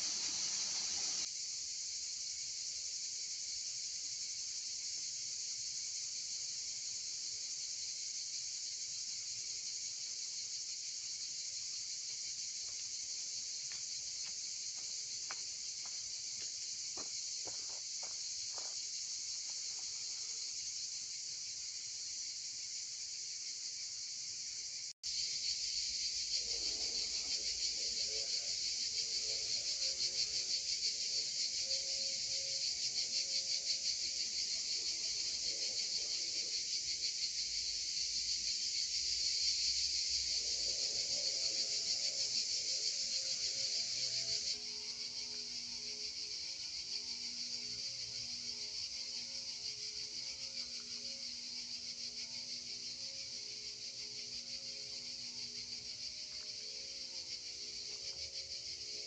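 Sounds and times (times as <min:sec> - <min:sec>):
insects buzzing chorus: 0:00.0 - 0:59.0.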